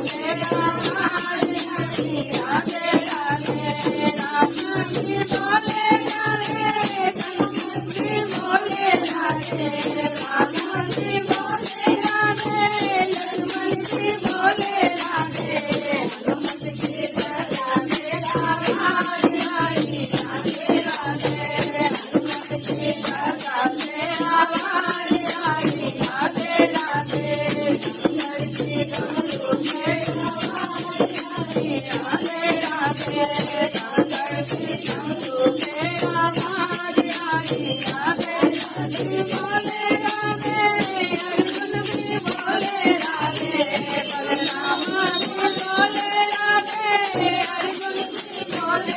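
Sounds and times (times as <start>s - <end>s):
person singing devotional folk song: 0.0s - 48.9s
shaken rattle percussion: 0.0s - 48.9s.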